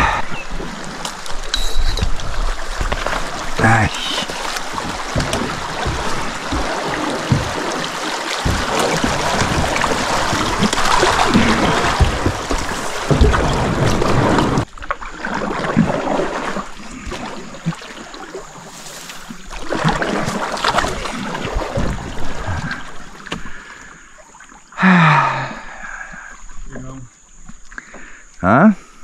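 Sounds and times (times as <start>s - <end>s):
river water rushing: 0.0s - 23.3s
water splashing: 0.0s - 24.8s.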